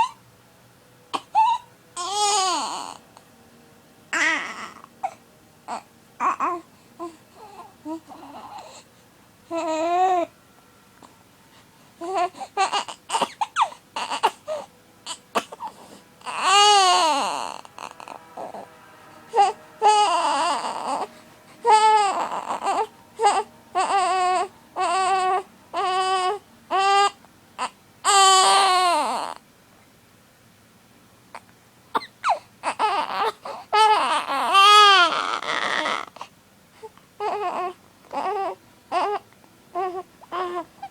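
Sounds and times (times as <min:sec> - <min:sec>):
baby crying: 0:00.0 - 0:00.2, 0:01.1 - 0:03.0, 0:04.1 - 0:08.9, 0:09.5 - 0:10.3, 0:12.0 - 0:29.4, 0:31.9 - 0:40.9.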